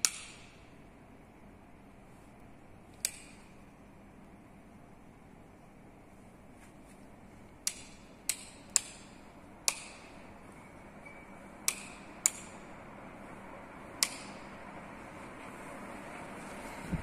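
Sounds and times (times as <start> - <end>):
ceiling fans rushing air: 0.0 - 17.0.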